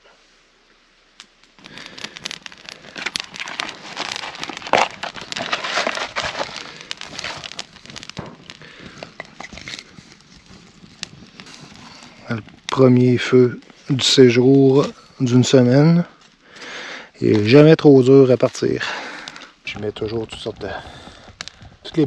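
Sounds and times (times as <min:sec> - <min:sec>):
campfire crackling and popping: 0:00.8 - 0:22.0.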